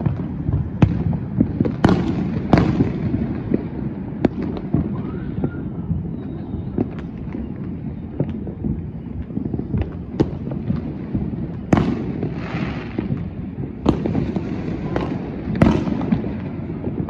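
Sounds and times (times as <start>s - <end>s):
crackling hiss of fireworks: 0.0s - 17.0s
distant fireworks bangs and pops: 0.0s - 17.0s
loud firework booms: 0.0s - 17.0s.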